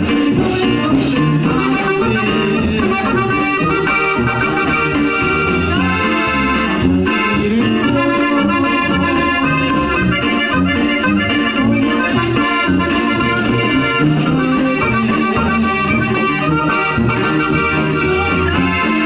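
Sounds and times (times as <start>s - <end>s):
accordion: 0.0s - 19.0s
steady beat: 0.0s - 19.0s
tuba bass: 0.0s - 19.0s.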